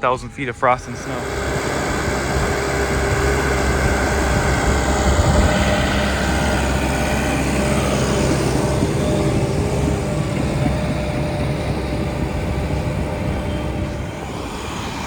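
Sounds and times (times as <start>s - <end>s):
diesel machine engine running: 0.0s - 15.0s.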